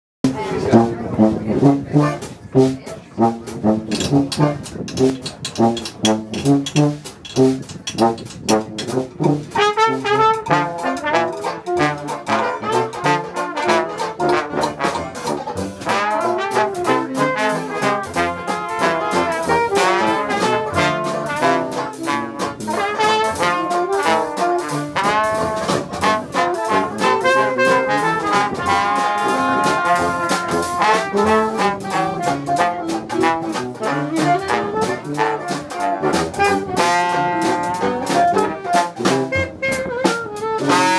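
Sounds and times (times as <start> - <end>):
jazz band playing: 0.2 - 40.9.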